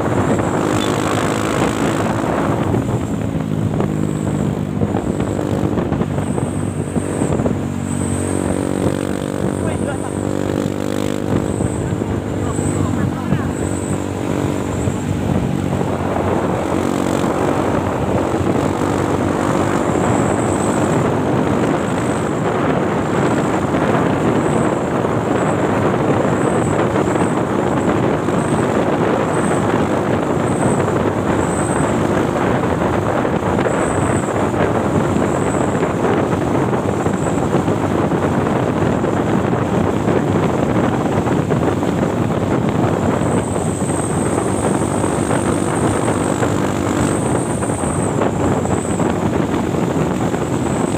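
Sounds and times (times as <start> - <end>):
moving vehicle noise: 0.0 - 50.9.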